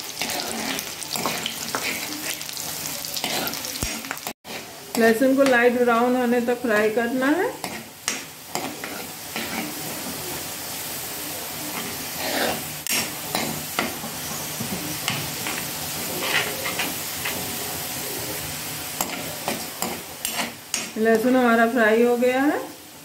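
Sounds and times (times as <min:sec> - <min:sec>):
spoon scraping pan: 0:00.0 - 0:10.5, 0:11.7 - 0:21.3
garlic sizzling in hot fat: 0:00.0 - 0:23.0.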